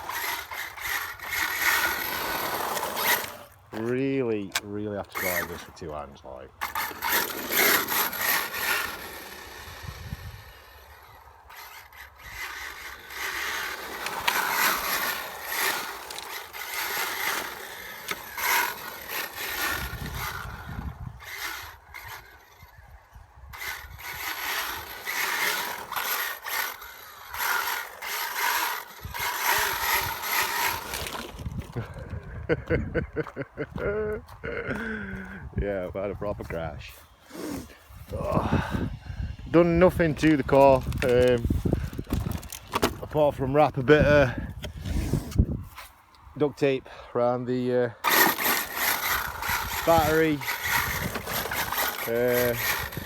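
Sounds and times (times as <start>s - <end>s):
electric motor whining: 0.0s - 32.8s, 37.0s - 45.6s, 48.0s - 53.0s.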